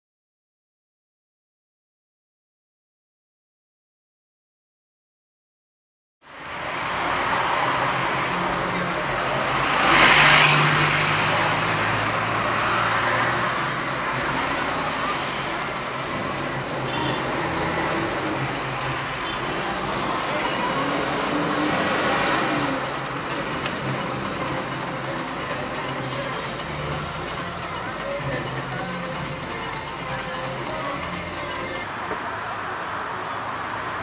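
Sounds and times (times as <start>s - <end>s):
cars passing on street: 6.2s - 34.0s.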